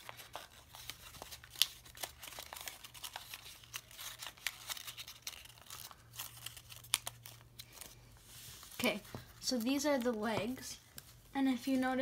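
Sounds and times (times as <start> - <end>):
paper rustling and folding: 0.0 - 12.0.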